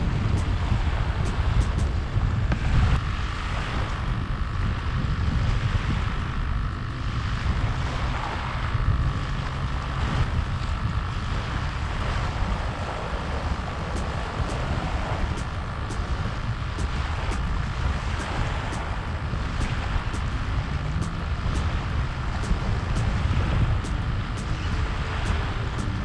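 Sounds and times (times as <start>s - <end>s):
small waves washing onto beach: 0.0s - 8.8s, 9.8s - 26.0s
faint steady drone: 0.0s - 26.0s
wind buffeting microphone: 0.0s - 26.0s.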